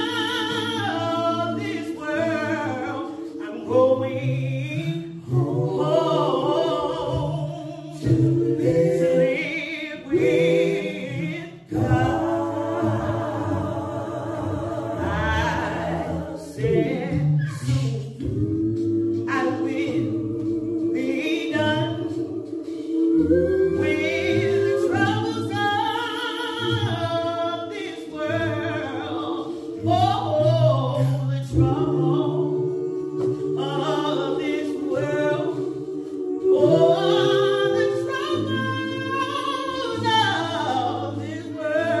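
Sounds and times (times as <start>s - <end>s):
vocal group singing in harmony: 0.0s - 42.0s.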